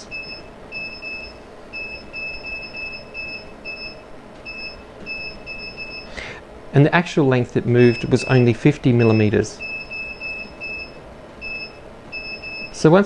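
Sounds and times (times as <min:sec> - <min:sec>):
keypad beeps: 0:00.0 - 0:06.1, 0:07.8 - 0:12.8.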